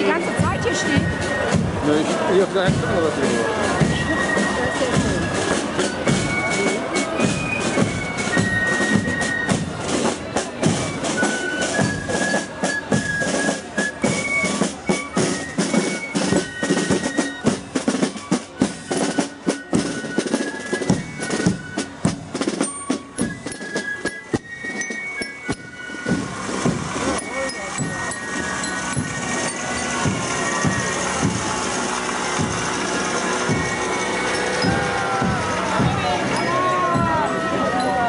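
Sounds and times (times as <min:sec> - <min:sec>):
snare drums beating: 0:00.0 - 0:37.6
fife melody: 0:00.0 - 0:38.0.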